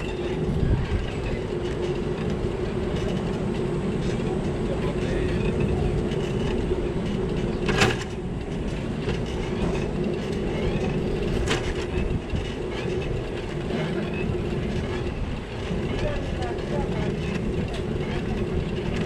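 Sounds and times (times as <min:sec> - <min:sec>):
bicycle road and wind noise: 0:00.0 - 0:19.0
constant hum: 0:00.0 - 0:19.0.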